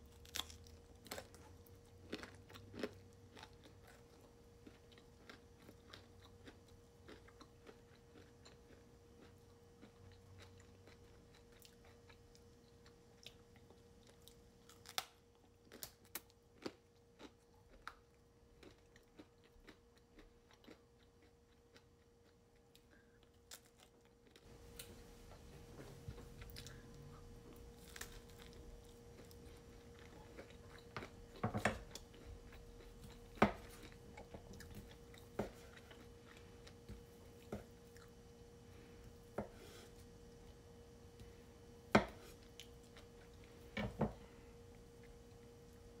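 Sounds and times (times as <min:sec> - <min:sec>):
person chewing crunchy food: 0:00.1 - 0:46.0.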